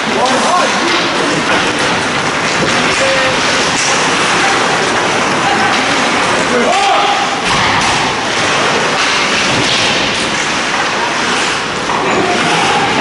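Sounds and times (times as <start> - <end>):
indistinct voices: 0.0 - 13.0.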